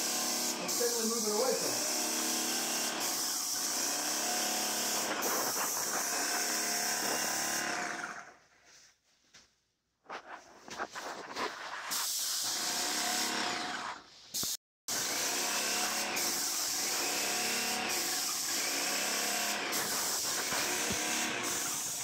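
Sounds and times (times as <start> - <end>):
paint sprayer hissing: 0.0 - 7.8, 10.8 - 22.0.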